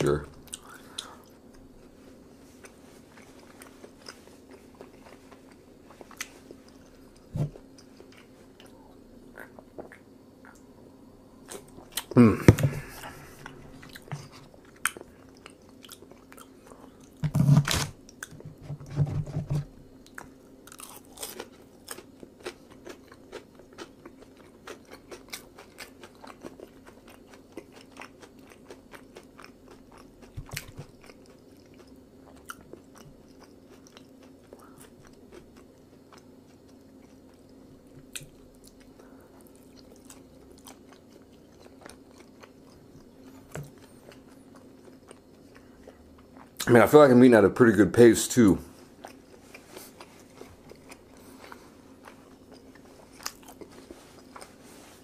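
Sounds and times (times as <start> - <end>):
faint steady hum: 0.0 - 55.0
person chewing food: 0.3 - 1.7, 2.4 - 10.7, 11.4 - 46.6, 48.9 - 55.0.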